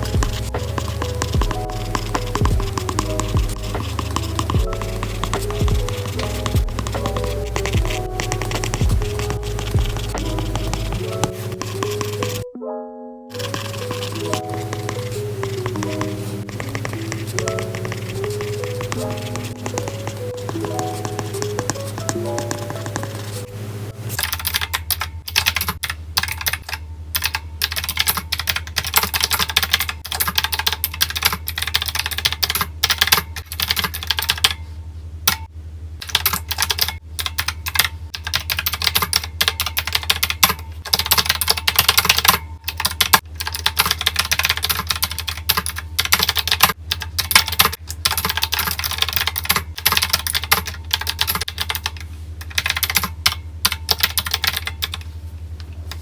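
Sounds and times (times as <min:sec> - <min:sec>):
rapid keyboard typing: 0:00.0 - 0:12.5, 0:13.3 - 0:23.5, 0:24.1 - 0:34.6, 0:36.0 - 0:55.1.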